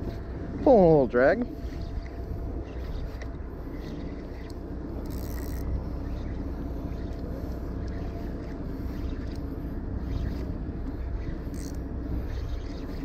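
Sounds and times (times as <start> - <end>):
boat engine rumble: 0.0 - 13.0
faint steady tone: 0.0 - 13.0.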